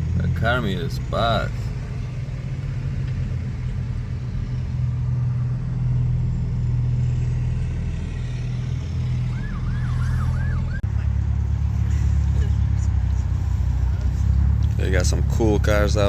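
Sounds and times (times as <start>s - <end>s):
car engine drone: 0.0s - 16.0s.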